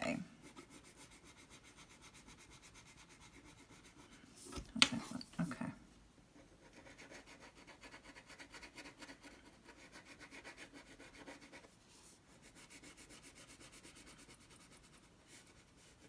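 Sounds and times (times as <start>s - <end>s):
scratching of colouring on paper: 0.4s - 4.2s, 6.4s - 16.0s.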